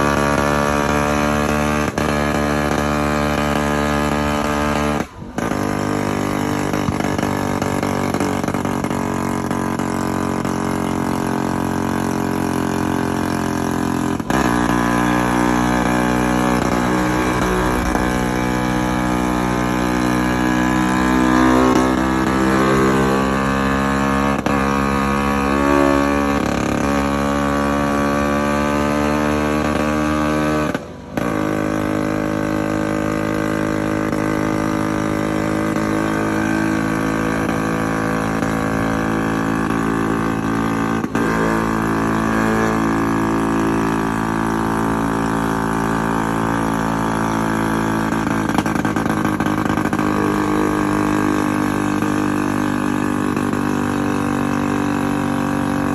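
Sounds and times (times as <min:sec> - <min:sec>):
motor scooter engines droning: 0:00.0 - 0:55.9.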